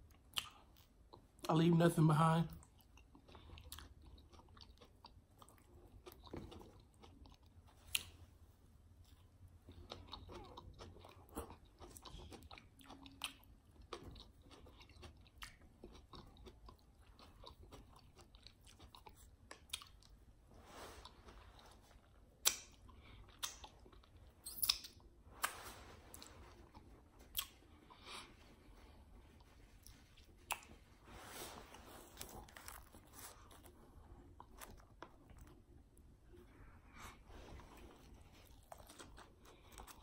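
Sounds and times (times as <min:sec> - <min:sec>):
person chewing food: 0:00.0 - 0:01.5, 0:02.6 - 0:40.0.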